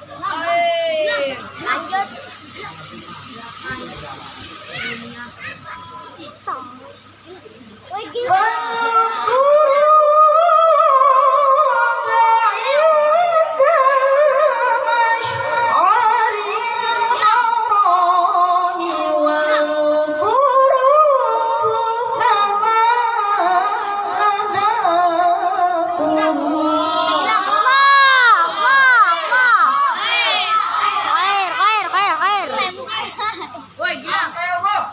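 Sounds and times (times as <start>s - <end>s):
boy reciting melodically: 0.0s - 34.9s.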